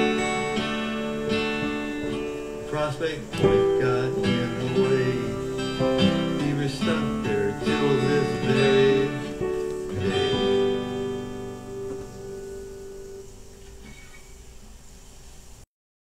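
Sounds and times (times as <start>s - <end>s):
acoustic guitar folk ballad: 0.0s - 15.5s.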